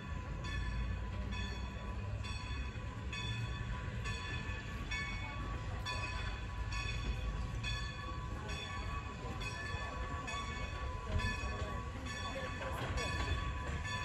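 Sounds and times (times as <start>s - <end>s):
low rumble of train: 0.0s - 14.0s
steam locomotive bell ringing: 0.0s - 14.0s.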